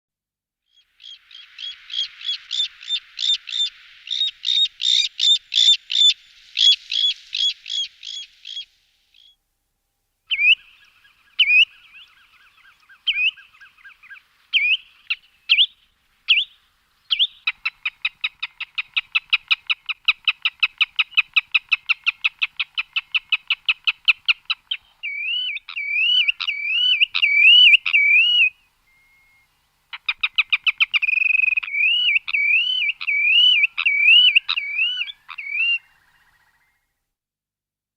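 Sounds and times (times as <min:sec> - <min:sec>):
bird calling: 0:00.7 - 0:09.4, 0:10.3 - 0:36.9.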